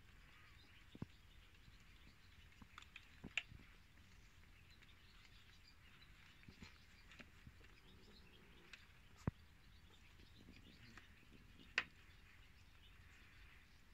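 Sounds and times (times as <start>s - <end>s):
kittens eating from a plate: 0.0s - 13.9s.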